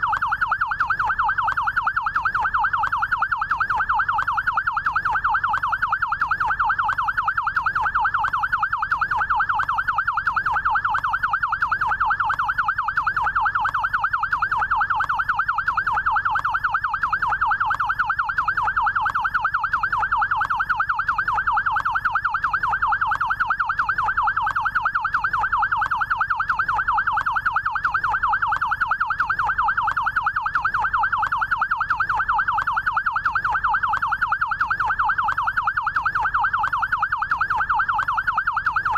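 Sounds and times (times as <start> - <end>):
electronic yelp siren: 0.0 - 38.9.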